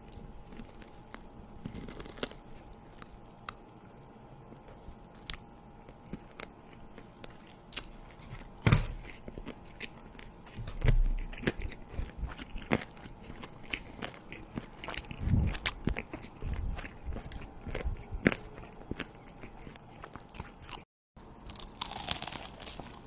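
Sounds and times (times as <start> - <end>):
biting and chewing: 0.0 - 3.6, 4.8 - 23.0.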